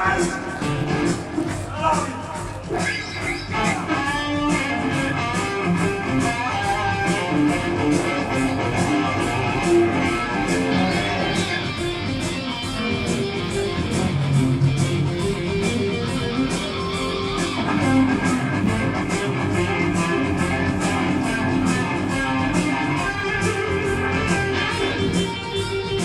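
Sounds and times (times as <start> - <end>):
heavy metal band playing: 0.0 - 26.0.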